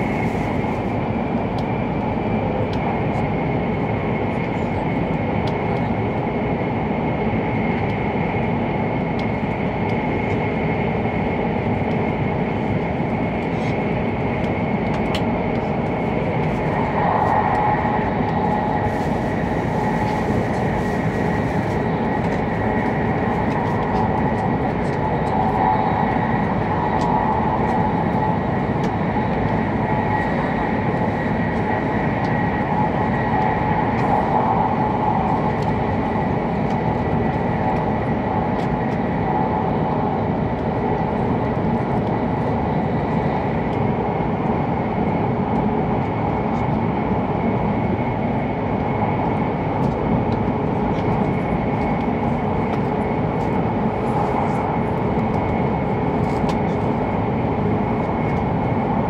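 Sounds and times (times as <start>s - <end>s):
faint steady whine: 0.0s - 59.0s
train cabin rumble and rush: 0.0s - 59.0s.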